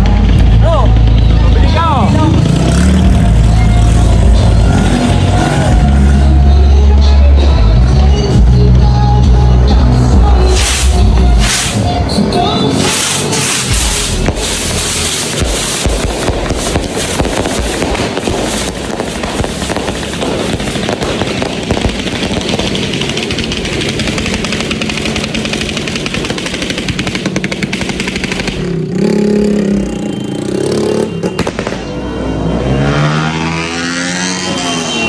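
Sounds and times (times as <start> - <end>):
engine revving: 0.0 - 8.1, 9.4 - 35.0
dense noisy din: 0.0 - 35.0.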